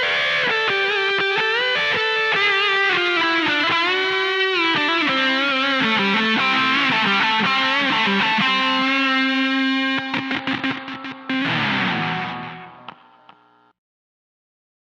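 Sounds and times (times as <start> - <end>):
distorted electric guitar lead: 0.0 - 13.7.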